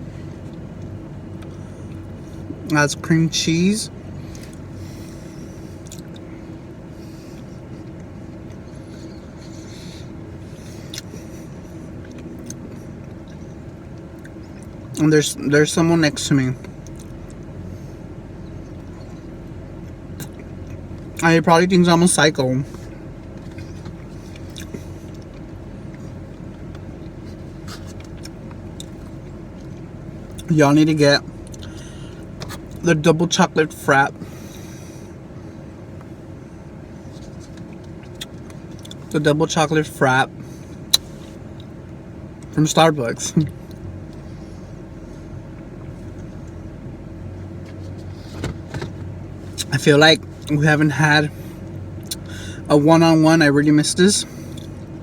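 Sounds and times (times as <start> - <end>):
car interior engine hum: 0.0 - 55.0.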